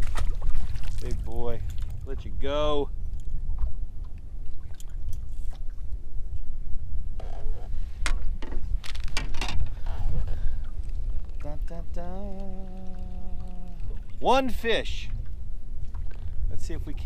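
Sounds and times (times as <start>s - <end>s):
choppy water: 0.0s - 17.0s
wind rumble: 0.0s - 17.0s.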